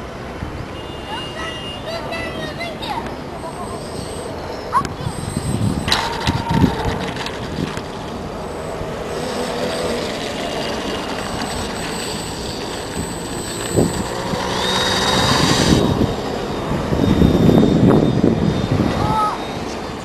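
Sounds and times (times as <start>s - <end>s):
rushing noise: 3.5s - 20.0s
model airplane motor whining: 3.6s - 20.0s.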